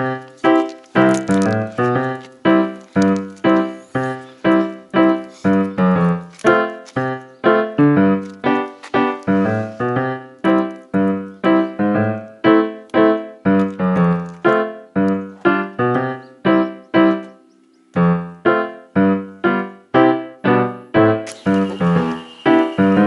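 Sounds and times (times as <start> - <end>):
piano notes: 0.0 - 23.0.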